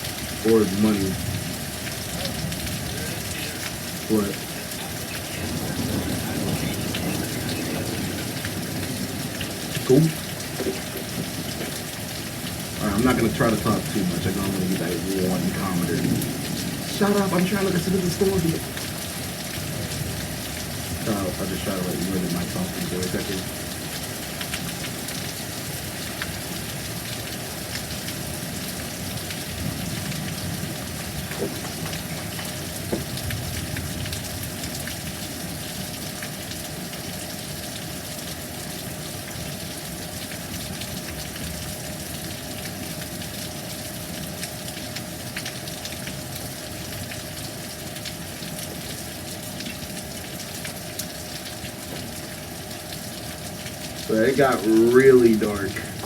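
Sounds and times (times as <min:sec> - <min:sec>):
heavy rain falling: 0:00.0 - 0:56.0
raindrops ticking on surfaces: 0:00.0 - 0:56.0.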